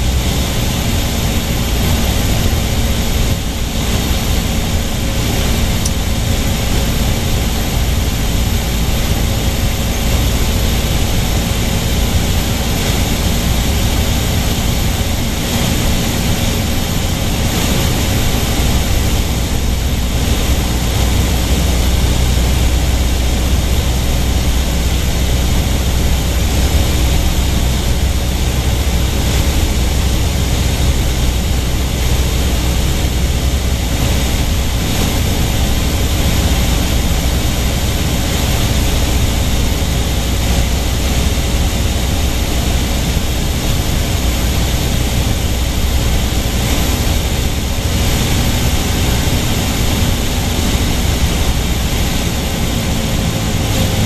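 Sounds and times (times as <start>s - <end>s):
propeller airplane engine drone: 0.0s - 54.0s.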